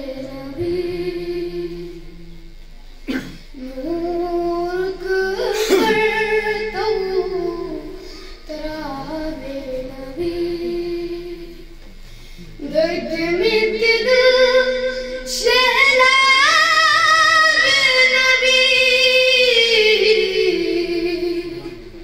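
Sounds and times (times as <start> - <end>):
boy singing through pa system: 0.0 - 2.3, 3.5 - 11.8, 12.6 - 22.0.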